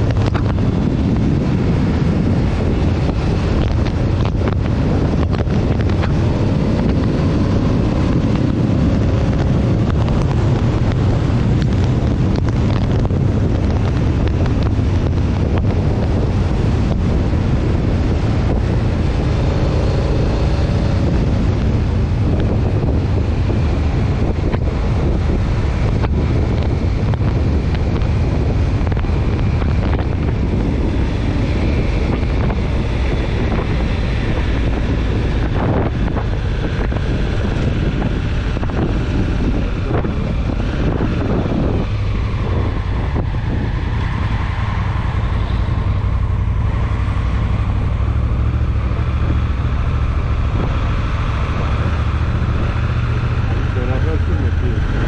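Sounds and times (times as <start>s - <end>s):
heavy wind buffeting microphone: 0.0s - 55.0s.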